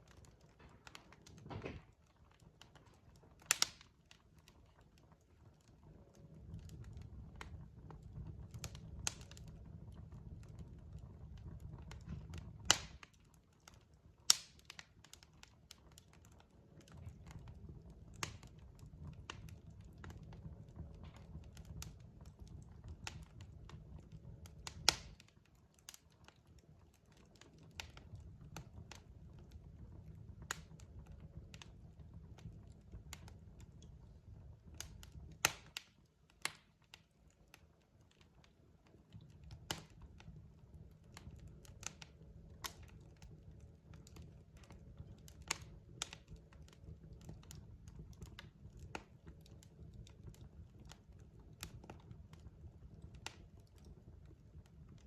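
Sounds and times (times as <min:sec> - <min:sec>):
fire crackling pops and snaps: 0:00.0 - 0:55.0
low fire rumble: 0:00.0 - 0:55.0.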